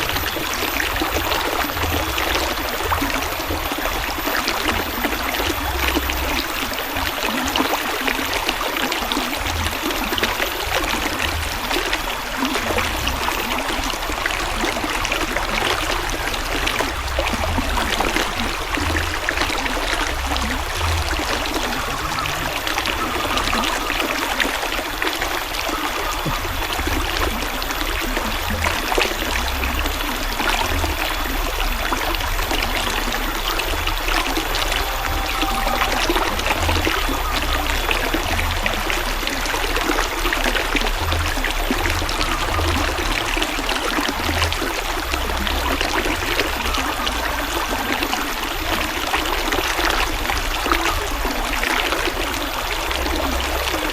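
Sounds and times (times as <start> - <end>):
river water babbling over stones: 0.0 - 53.9.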